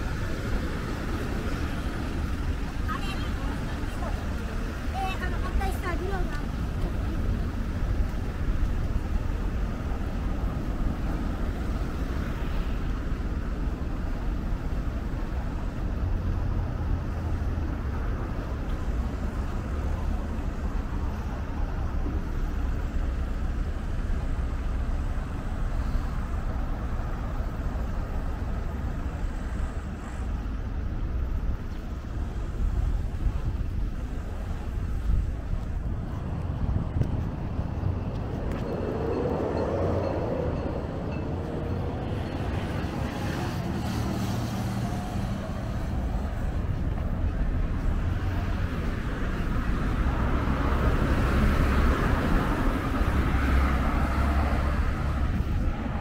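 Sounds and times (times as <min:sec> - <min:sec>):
low rumble of traffic: 0:00.0 - 0:56.0.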